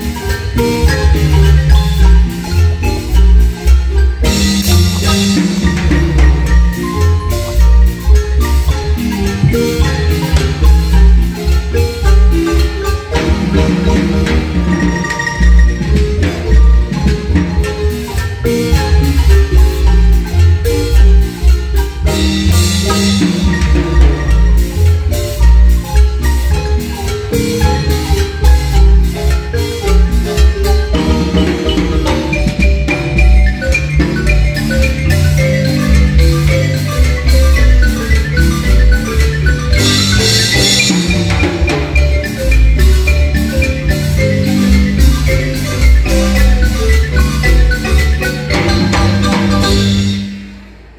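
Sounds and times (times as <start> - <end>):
marimba ensemble playing: 0.0 - 50.9.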